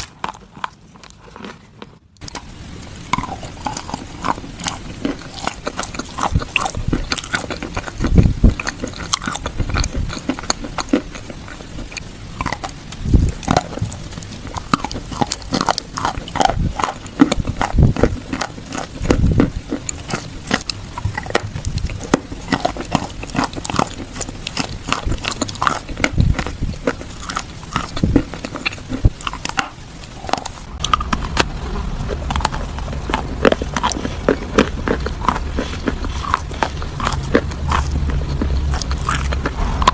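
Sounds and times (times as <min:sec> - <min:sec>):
chewing crisp food: 0:00.0 - 0:39.9.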